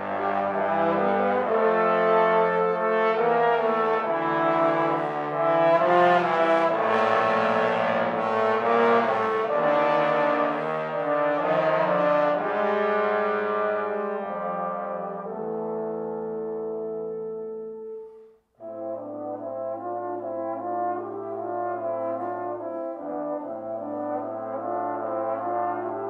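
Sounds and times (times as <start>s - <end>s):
trombones playing chords: 0.0s - 26.0s.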